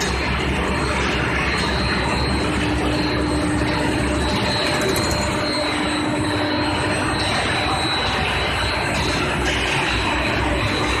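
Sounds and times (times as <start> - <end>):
high-pitched whine: 0.0 - 11.0
loud industrial furnace noise: 0.0 - 11.0
low tone: 0.0 - 11.0.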